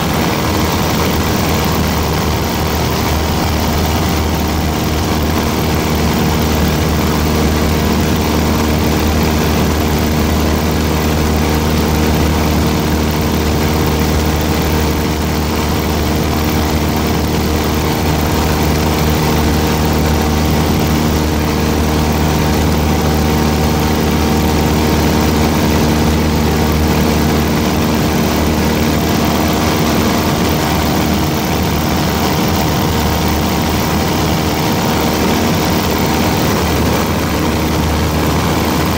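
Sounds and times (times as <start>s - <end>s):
aircraft engine droning: 0.0s - 38.9s.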